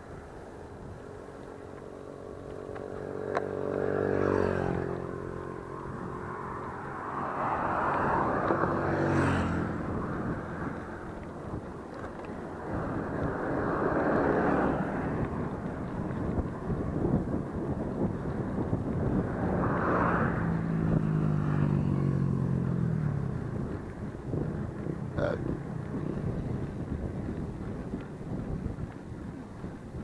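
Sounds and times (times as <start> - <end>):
road and wind noise: 0.0 - 30.0
vehicles passing: 0.0 - 30.0.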